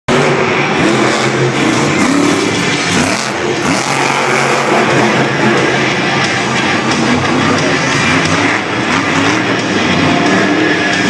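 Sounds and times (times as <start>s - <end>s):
car engine running loudly: 0.1s - 11.0s.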